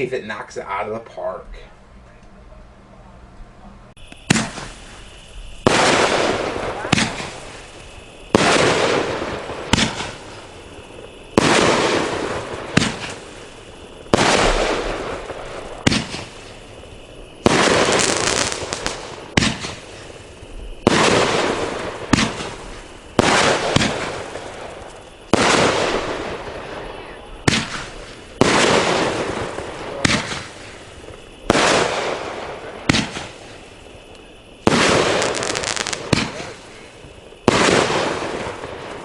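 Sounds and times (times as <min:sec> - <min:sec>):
firework crackle and hiss: 0:03.9 - 0:39.0
firework booms: 0:04.0 - 0:39.0.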